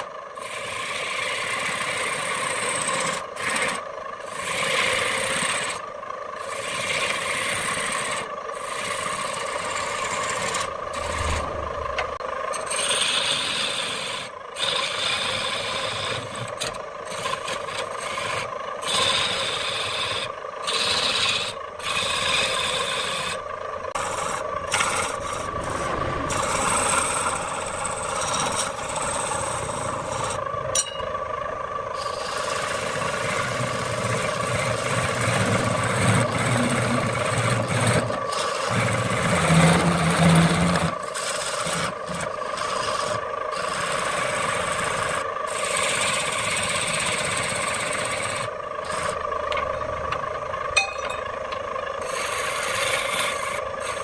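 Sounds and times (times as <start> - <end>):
turning tool scraping wood: 0.0 - 30.5, 31.9 - 54.0
lathe humming: 0.0 - 54.0.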